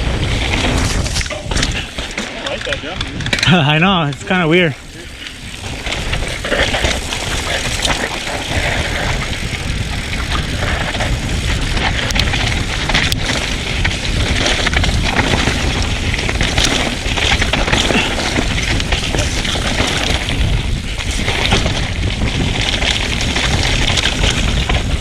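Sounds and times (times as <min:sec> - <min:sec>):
bike rattling: 0:00.0 - 0:25.0
bike tyres on dirt and rock: 0:00.0 - 0:25.0
wind buffeting microphone: 0:00.0 - 0:25.0.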